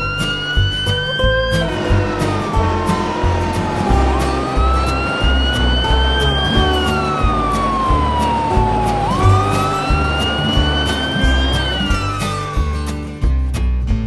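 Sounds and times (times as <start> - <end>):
fire truck siren wailing: 0.0 - 13.2
background music with beat: 0.0 - 14.0.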